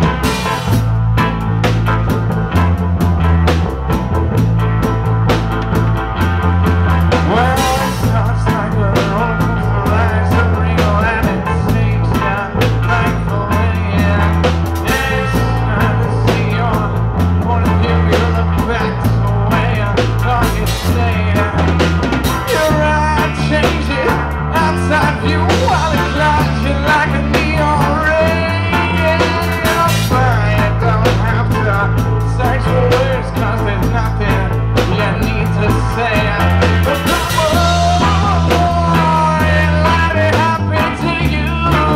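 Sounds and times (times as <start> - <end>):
live reggae band playing: 0.0 - 41.9
repeating bass line: 0.0 - 41.9
person singing: 7.1 - 41.9.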